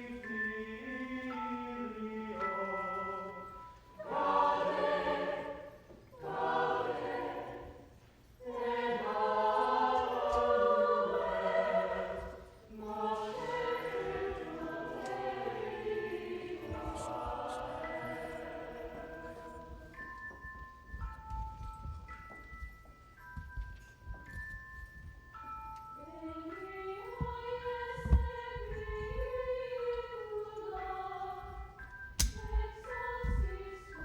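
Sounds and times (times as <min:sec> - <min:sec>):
choir singing sustained chords: 0:00.0 - 0:20.2, 0:26.0 - 0:34.0.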